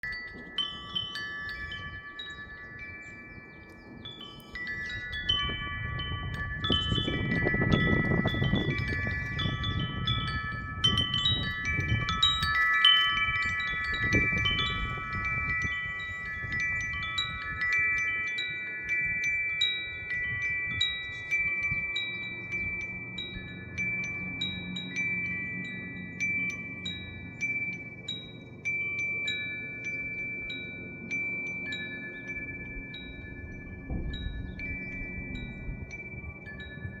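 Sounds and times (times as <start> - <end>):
wind gusts rushing: 0.0 - 28.7, 29.3 - 37.0
wind chime ringing: 0.0 - 37.0.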